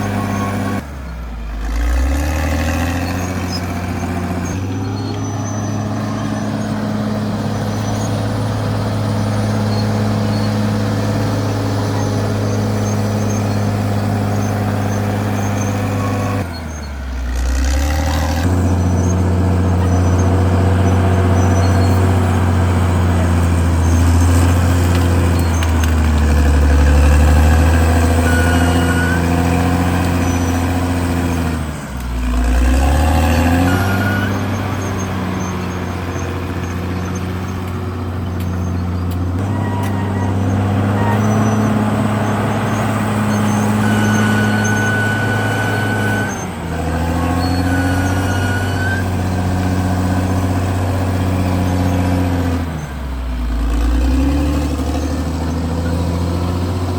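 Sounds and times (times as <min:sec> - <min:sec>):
short high squeaks: 0:00.0 - 0:00.8, 0:02.3 - 0:53.0
bulldozer diesel engine running: 0:00.0 - 0:56.9.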